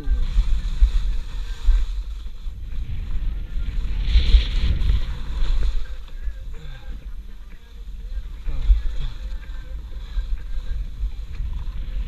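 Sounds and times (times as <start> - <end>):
skis scraping across snow: 0.0 - 12.0
wind buffeting microphone: 0.0 - 12.0.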